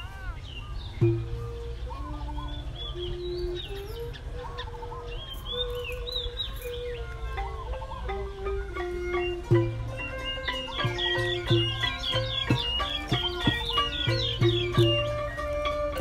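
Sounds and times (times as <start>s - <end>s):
birds chirping: 0.0s - 16.0s
background music of held notes: 0.6s - 16.0s.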